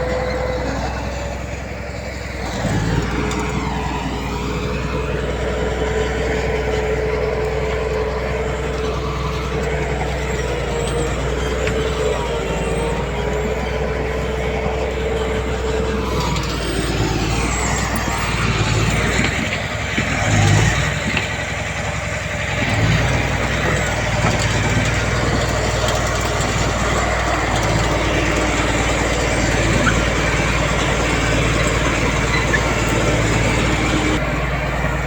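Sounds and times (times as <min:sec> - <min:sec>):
diesel machinery engine: 0:00.0 - 0:35.0.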